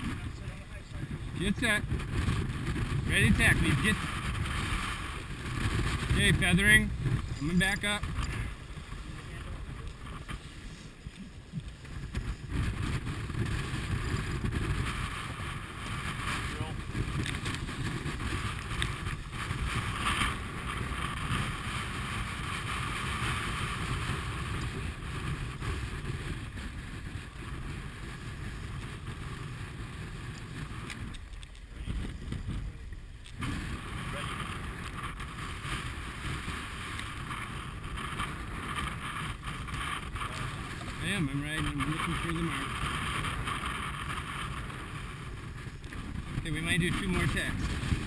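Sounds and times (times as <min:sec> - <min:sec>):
water splashing along hull: 0:00.0 - 0:41.1, 0:41.7 - 0:46.5
wind buffeting microphone: 0:00.0 - 0:48.0.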